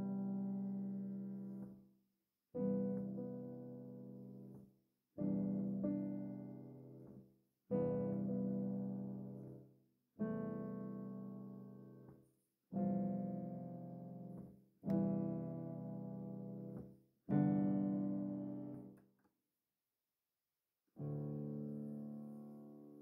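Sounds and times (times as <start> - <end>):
slow piano chords: 0.0 - 1.8, 2.6 - 4.6, 5.2 - 9.6, 10.2 - 19.0, 21.0 - 23.0.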